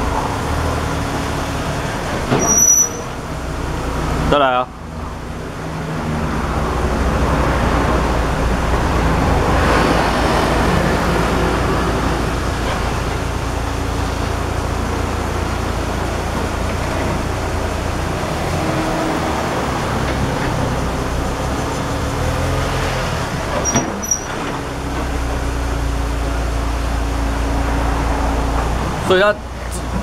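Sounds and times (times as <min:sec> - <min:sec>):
car engine rumbling: 0:00.0 - 0:30.0
road noise: 0:00.0 - 0:30.0.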